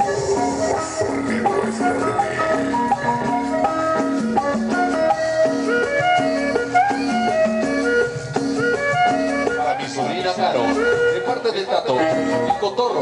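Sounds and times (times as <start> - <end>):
cumbia dance music: 0.0 - 13.0.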